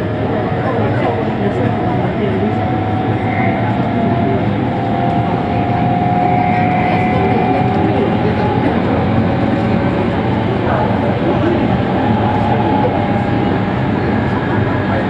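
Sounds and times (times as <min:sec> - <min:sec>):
electric train whine: 0:00.0 - 0:15.0
train wheels rumbling on rails: 0:00.0 - 0:15.0.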